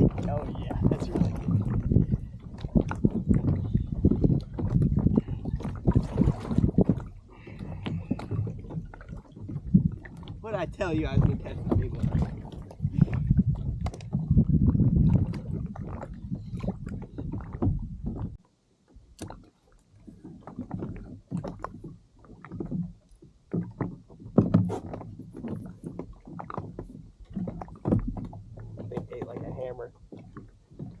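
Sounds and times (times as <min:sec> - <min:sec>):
kayak knocks and bumps: 0:00.0 - 0:31.0.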